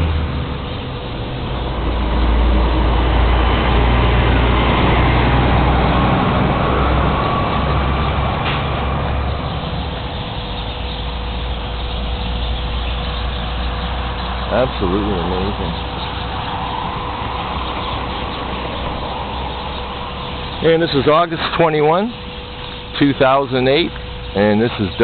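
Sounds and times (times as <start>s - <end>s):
flock of songbirds chirping: 0.0s - 25.0s
vehicle engine rumbling: 0.0s - 25.0s.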